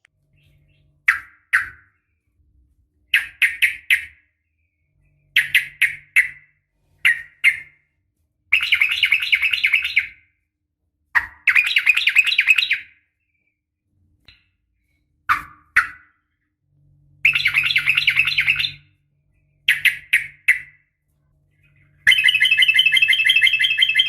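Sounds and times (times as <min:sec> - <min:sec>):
bird chirping and trilling: 0:00.2 - 0:02.3, 0:03.1 - 0:07.9, 0:08.5 - 0:10.3, 0:11.2 - 0:13.6, 0:15.3 - 0:24.0.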